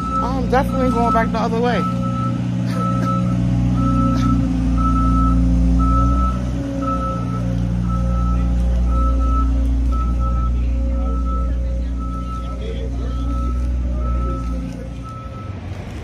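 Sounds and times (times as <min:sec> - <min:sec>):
truck reversing alarm beeping: 0:00.0 - 0:15.8
truck engine idling: 0:00.0 - 0:16.0.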